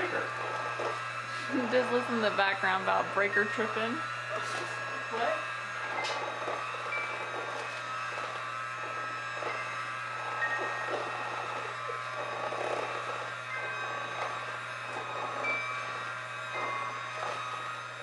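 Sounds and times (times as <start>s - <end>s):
electric mixer motor whine: 0.0s - 18.0s.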